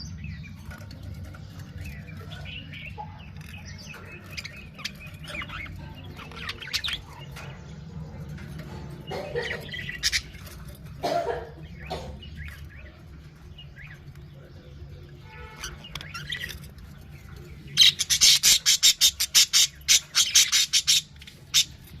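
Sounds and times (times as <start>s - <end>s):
budgerigars chirping softly: 0.0s - 10.8s, 11.6s - 22.0s.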